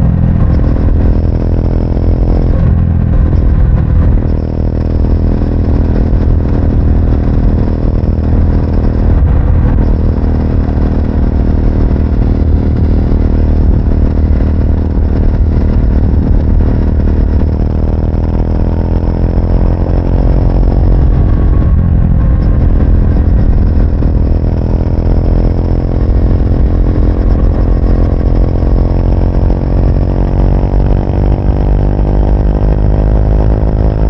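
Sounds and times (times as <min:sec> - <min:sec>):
motorcycle engine and exhaust: 0:00.0 - 0:34.0
wind rumble: 0:00.0 - 0:34.0.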